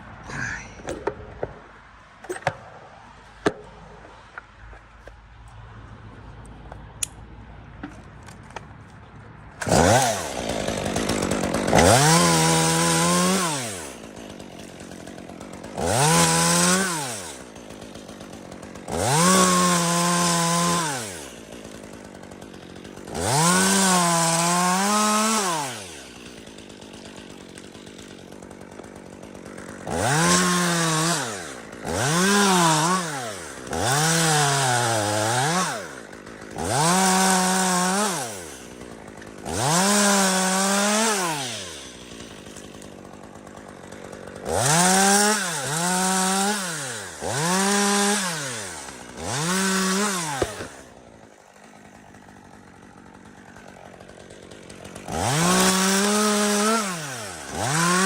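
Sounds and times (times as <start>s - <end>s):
chainsaw engine revving: 9.5s - 58.0s.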